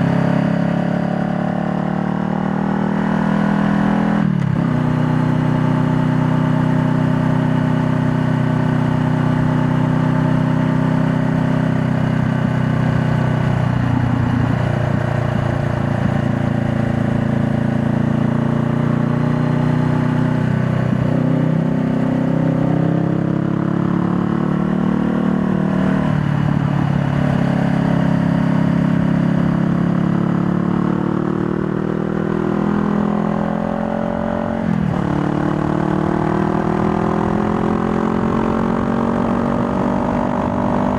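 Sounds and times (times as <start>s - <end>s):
motorcycle engine running: 3.7s - 40.9s.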